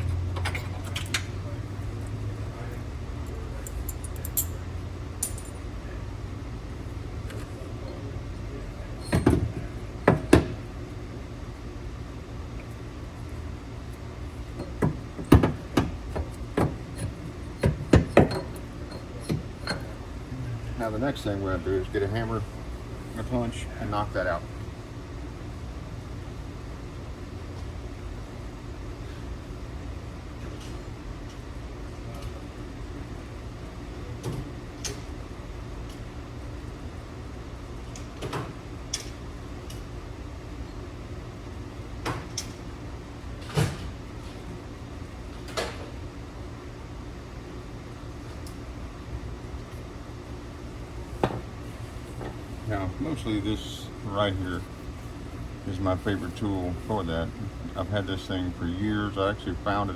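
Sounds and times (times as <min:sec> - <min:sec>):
low shop hum: 0:00.0 - 0:59.9.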